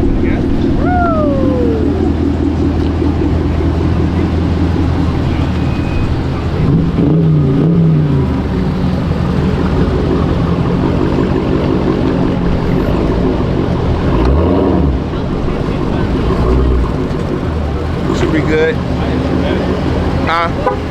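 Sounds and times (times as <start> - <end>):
engine revving: 0.0 - 20.9
muscle car engines rumbling: 0.0 - 20.9.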